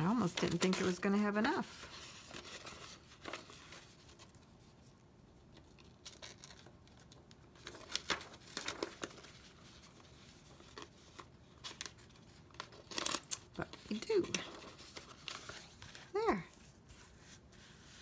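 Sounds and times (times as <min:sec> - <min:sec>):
cardstock and ribbon rustling: 0:00.0 - 0:04.9, 0:05.5 - 0:18.0.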